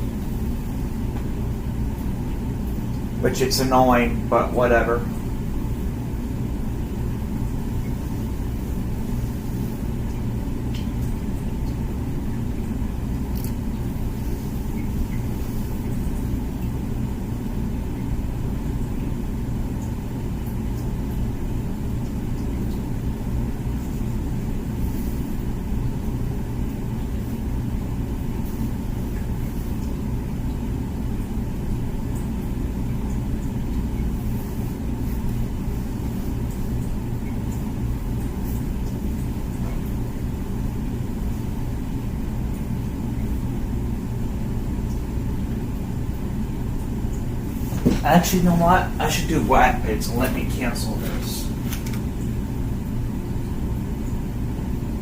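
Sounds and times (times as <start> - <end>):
dishwasher pump humming: 0.0 - 55.0.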